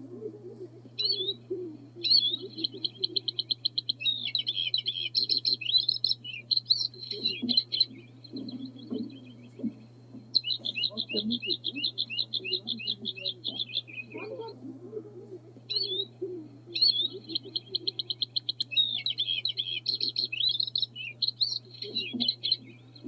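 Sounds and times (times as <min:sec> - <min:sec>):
bird singing: 0:00.0 - 0:14.6, 0:15.5 - 0:23.0
faint low hum: 0:00.0 - 0:23.0.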